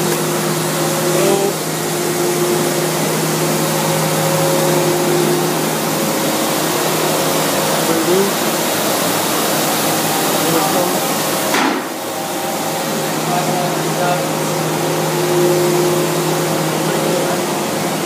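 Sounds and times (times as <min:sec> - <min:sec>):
machinery hiss: 0:00.0 - 0:18.0
workshop machinery hum: 0:00.0 - 0:18.0.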